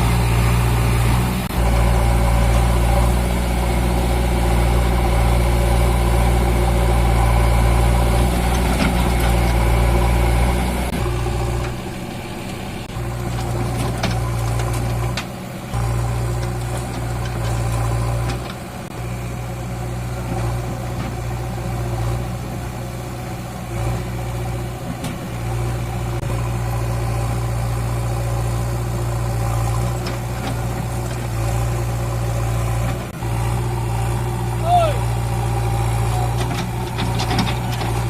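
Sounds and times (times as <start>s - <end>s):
tractor engine humming: 0.0s - 38.0s.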